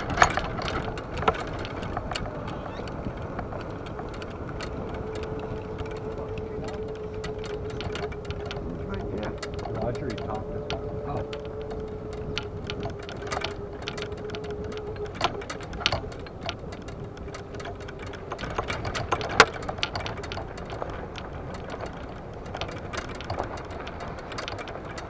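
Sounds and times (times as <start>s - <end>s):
golf cart motor whine: 0.0s - 25.0s
golf clubs rattling in bag: 0.0s - 25.0s.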